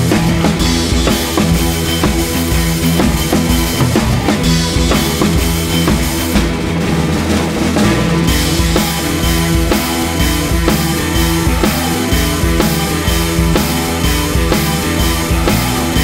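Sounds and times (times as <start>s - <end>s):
drum kit beat: 0.0s - 16.0s
held bass notes: 0.0s - 16.0s.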